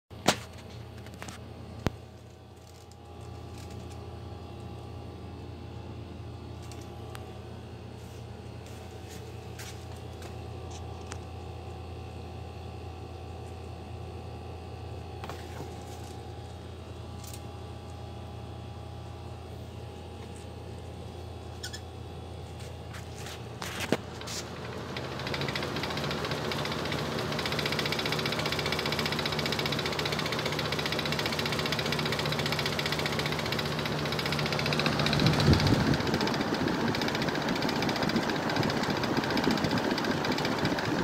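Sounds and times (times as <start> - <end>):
box fan running: 0.1 - 41.0.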